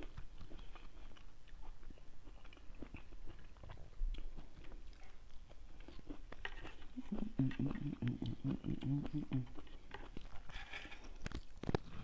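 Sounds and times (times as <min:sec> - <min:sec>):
person chewing juicy fruit: 0:00.0 - 0:12.0.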